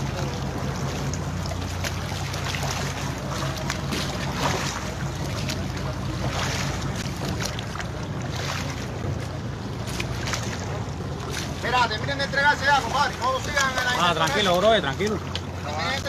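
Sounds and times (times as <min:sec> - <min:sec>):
boat engine humming: 0:00.0 - 0:16.0
water splashing against hull: 0:00.0 - 0:16.0.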